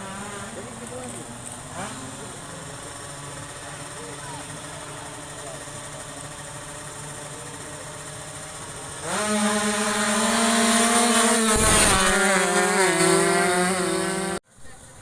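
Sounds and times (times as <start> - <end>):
faint engine hum: 0.0 - 15.0
motorcycle engine revving: 0.0 - 15.0.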